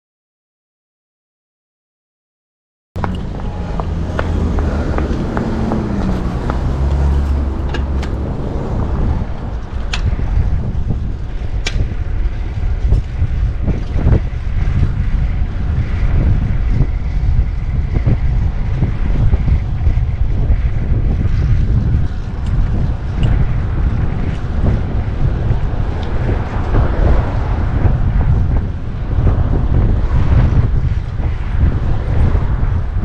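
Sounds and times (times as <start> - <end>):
passing vehicle engine: 3.0 - 11.5, 14.6 - 33.0
wind buffeting microphone: 3.0 - 33.0.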